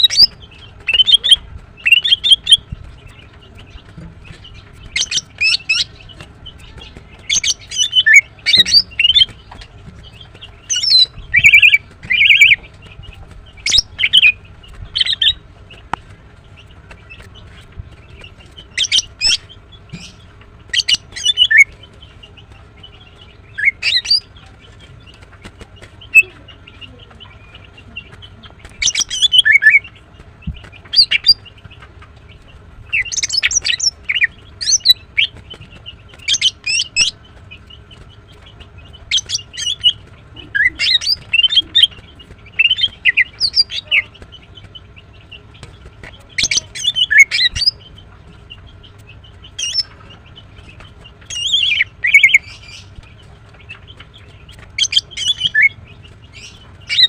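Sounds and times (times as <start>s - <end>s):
bird sharp chirps: 0.0s - 12.8s, 16.8s - 25.2s, 26.0s - 31.6s, 32.9s - 57.0s.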